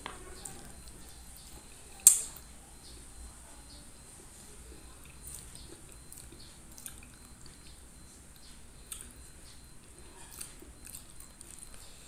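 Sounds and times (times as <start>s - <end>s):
close-up chewing: 0.1s - 3.3s, 4.2s - 12.0s.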